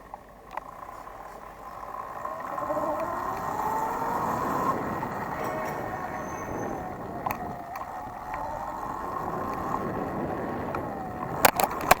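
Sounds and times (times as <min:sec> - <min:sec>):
electric motor whine: 0:00.0 - 0:12.0
wind and tyre noise: 0:00.0 - 0:12.0.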